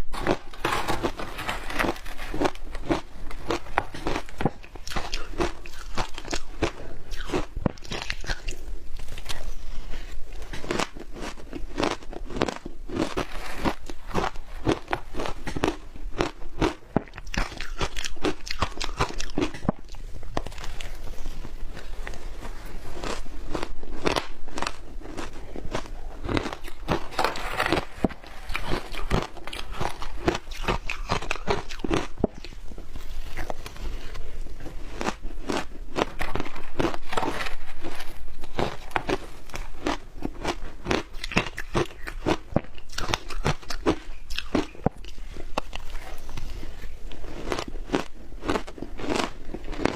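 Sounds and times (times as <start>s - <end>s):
chewing crunchy shaved ice: 0.1s - 49.9s.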